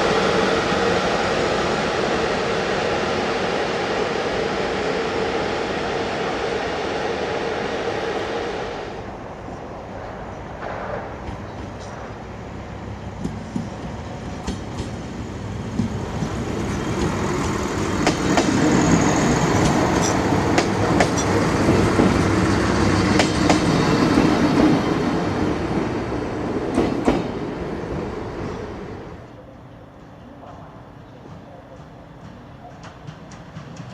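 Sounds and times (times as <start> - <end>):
train rolling past: 0.0 - 33.9.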